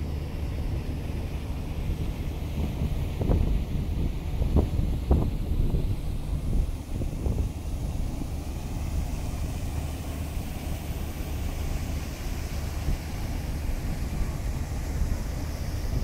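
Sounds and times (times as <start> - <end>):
faint hiss: 0.0 - 16.0
low outdoor rumble: 0.0 - 16.0.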